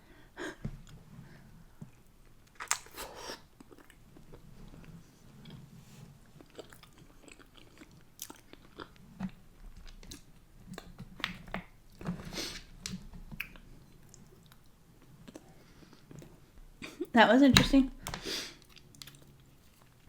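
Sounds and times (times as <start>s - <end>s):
person chewing food: 1.8s - 17.1s, 18.5s - 20.0s.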